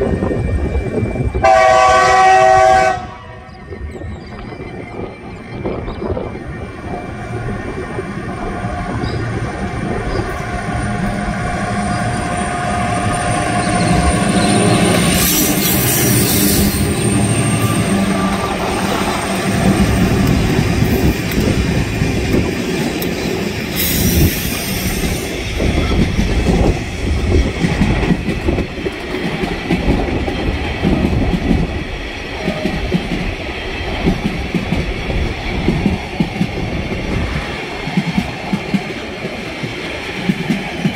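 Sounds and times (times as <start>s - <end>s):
diesel locomotive engines humming: 0.0s - 40.9s.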